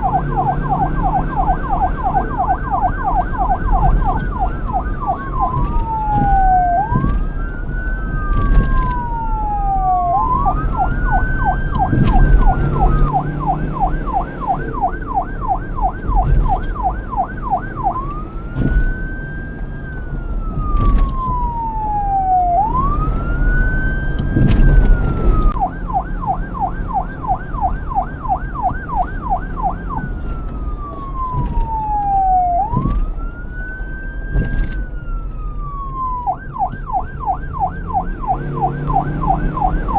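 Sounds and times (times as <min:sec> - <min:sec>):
police siren wail and yelp: 0:00.0 - 0:39.9.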